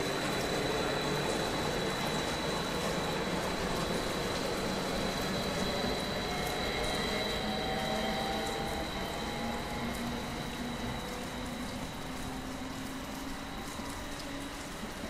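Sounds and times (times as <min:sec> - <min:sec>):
electric train whine pulling away: 0:00.0 - 0:15.0
rain hissing: 0:00.0 - 0:15.0.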